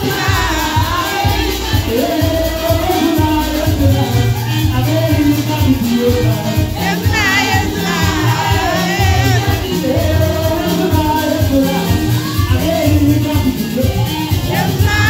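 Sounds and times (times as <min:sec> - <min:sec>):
amplified backing music with bass beat: 0:00.0 - 0:15.0
people singing gospel: 0:00.0 - 0:15.0.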